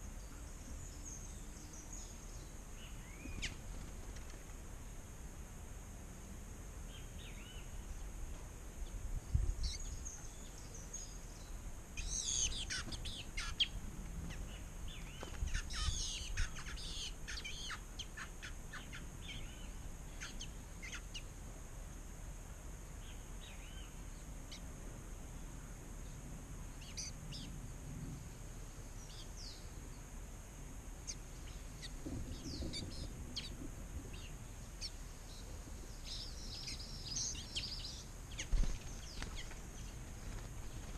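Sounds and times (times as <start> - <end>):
songbirds chirping: 0.0 - 40.9
steady high hiss: 0.0 - 40.9.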